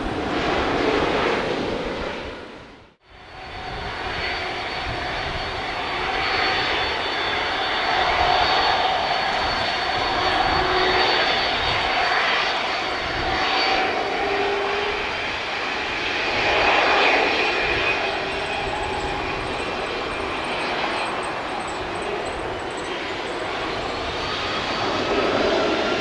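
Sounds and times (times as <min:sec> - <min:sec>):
jet engines rushing with whine: 0:00.0 - 0:26.0.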